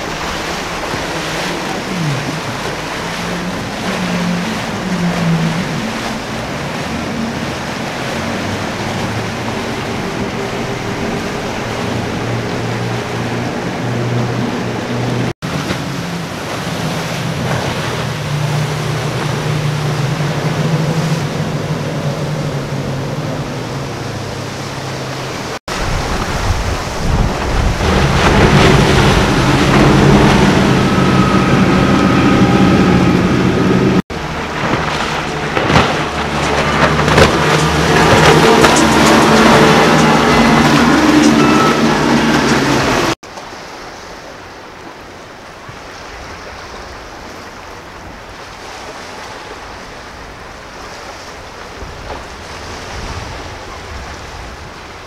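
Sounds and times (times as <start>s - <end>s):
boat engine drone: 0.0s - 55.0s
water spray and waves: 0.0s - 55.0s
wind: 0.0s - 55.0s.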